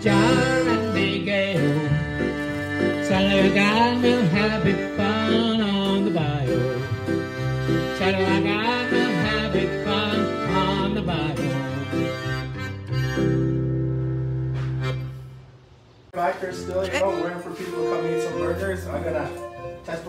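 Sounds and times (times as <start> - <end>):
accordion playing country tune: 0.0 - 15.4, 16.2 - 20.0.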